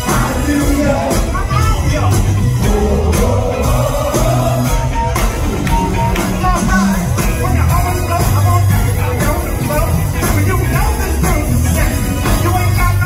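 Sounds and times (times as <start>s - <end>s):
funk band playing: 0.0s - 13.0s
lead vocal singing: 0.0s - 13.0s.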